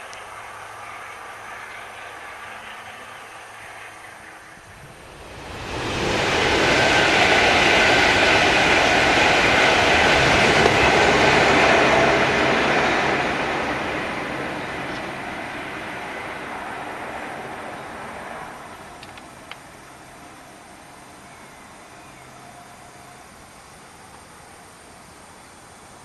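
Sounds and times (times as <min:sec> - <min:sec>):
rush of wheels and carriages: 0:00.0 - 0:23.8
steam train passing at speed: 0:00.0 - 0:26.0.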